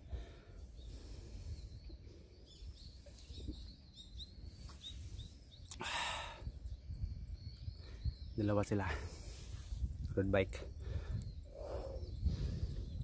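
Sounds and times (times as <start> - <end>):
wind rumble on microphone: 0.0 - 13.0
faint high bird chirps: 0.4 - 13.0.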